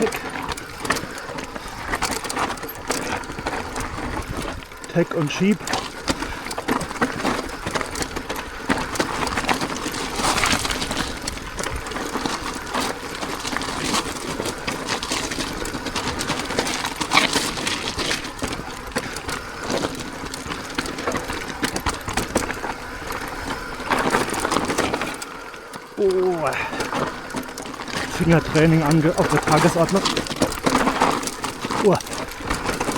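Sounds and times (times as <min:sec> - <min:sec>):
bike rattling over stones: 0:00.0 - 0:32.9.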